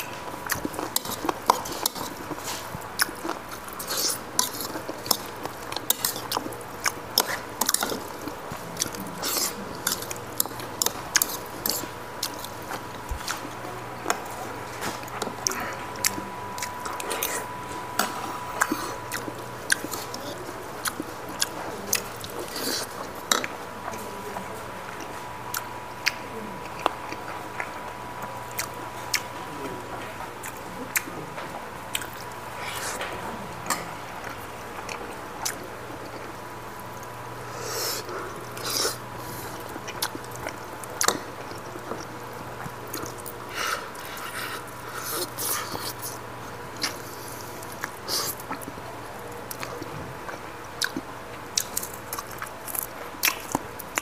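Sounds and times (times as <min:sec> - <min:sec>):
chewing and smacking: 0:00.0 - 0:54.0.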